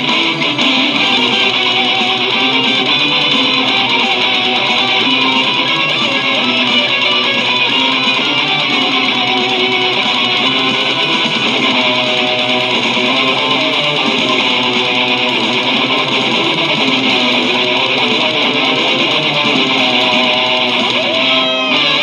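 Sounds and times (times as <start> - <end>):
metal music with electric guitars: 0.0 - 22.0.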